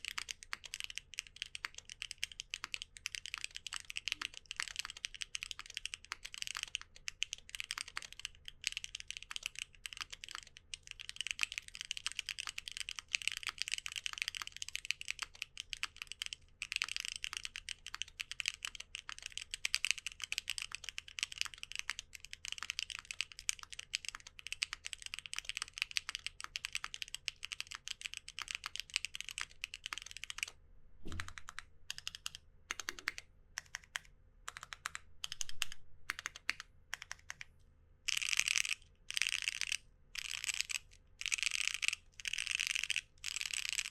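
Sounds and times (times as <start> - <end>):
mechanical keyboard typing: 0.0 - 37.5, 38.1 - 43.9.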